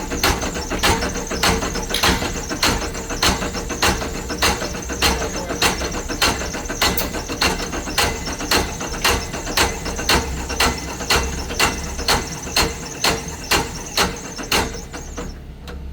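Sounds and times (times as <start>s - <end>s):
engine knocking: 0.0s - 15.5s.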